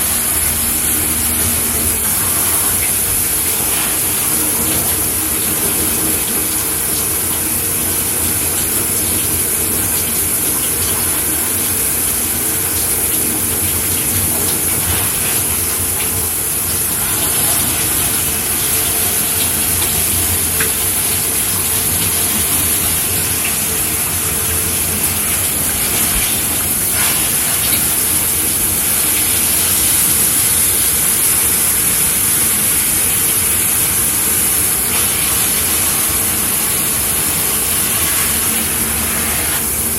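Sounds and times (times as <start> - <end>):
shower spraying water: 0.0 - 39.9.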